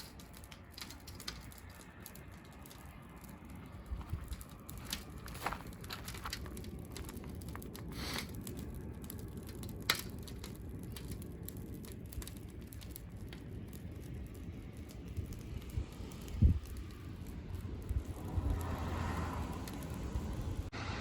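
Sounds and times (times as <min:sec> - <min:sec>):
wood fire crackling: 0:00.0 - 0:20.8
low rumble: 0:00.2 - 0:21.0.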